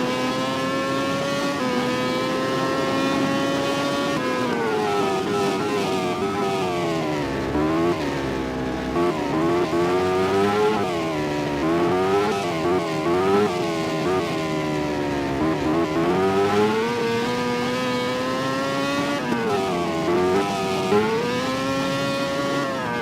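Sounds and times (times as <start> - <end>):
race motorcycle engine revving: 0.0 - 23.0.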